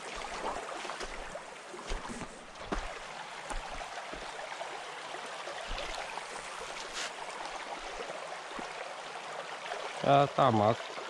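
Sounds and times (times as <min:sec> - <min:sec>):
creek water running over stones: 0:00.0 - 0:11.0.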